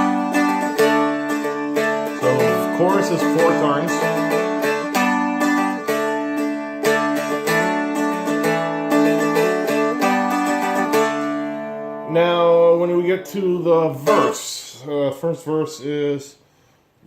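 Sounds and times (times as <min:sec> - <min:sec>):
strummed dulcimer chords: 0:00.0 - 0:14.4.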